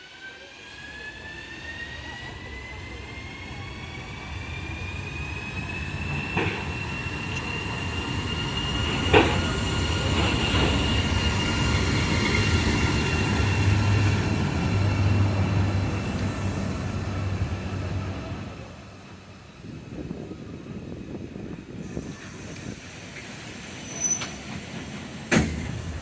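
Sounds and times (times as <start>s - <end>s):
train wheel squeal: 0.0s - 17.4s, 21.8s - 26.0s
low train rumble: 0.0s - 26.0s.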